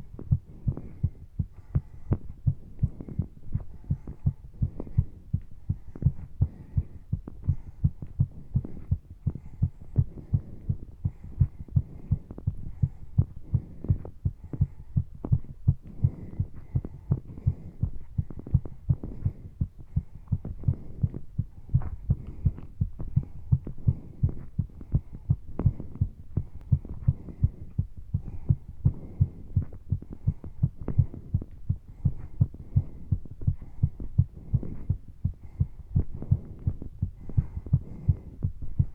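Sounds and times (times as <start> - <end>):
breathing: 0.0 - 38.9
heart pounding: 0.0 - 38.9.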